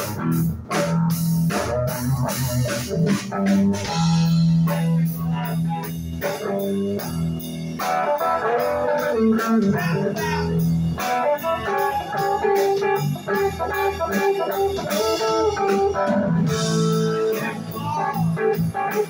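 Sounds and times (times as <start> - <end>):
blues rock band playing: 0.0 - 19.0
drum kit beat: 0.0 - 19.0
electric guitar: 0.0 - 19.0.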